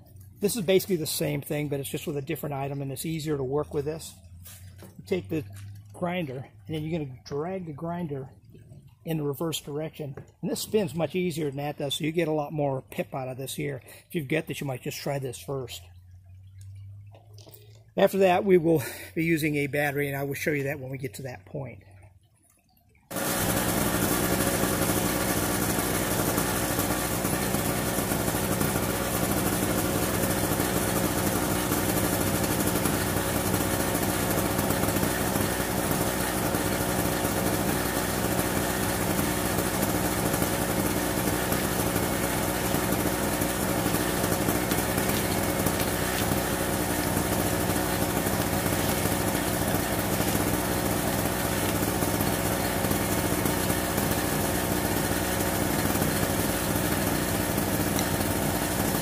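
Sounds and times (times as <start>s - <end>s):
generator engine running: 0.0s - 21.8s, 23.1s - 59.0s.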